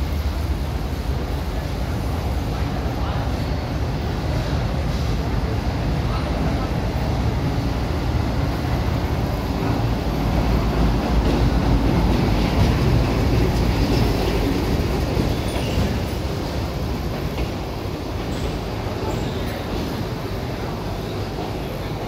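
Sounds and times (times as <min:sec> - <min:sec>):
train passing with low rumble: 0:00.0 - 0:22.0.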